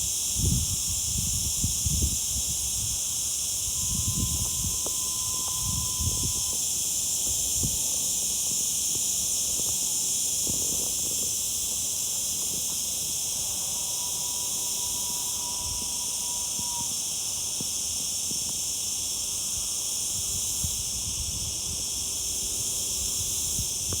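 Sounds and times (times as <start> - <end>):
cicadas buzzing: 0.0 - 24.0.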